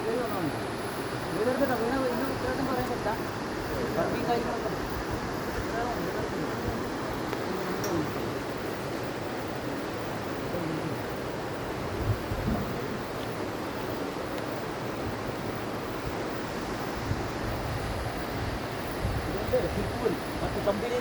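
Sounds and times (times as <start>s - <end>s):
river flowing over rocks: 0.0s - 11.9s, 12.7s - 21.0s.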